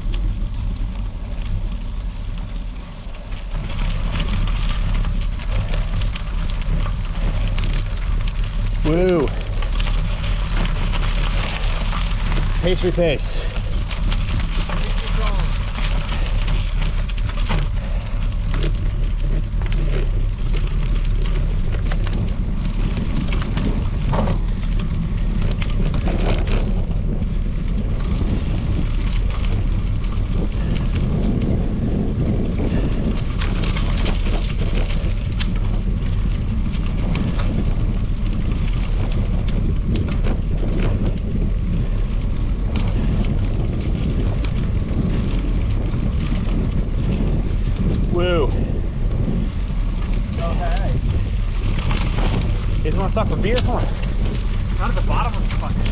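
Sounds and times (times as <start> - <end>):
tyres rolling on gravel: 0.0 - 55.9
wind rushing over microphone: 0.0 - 55.9.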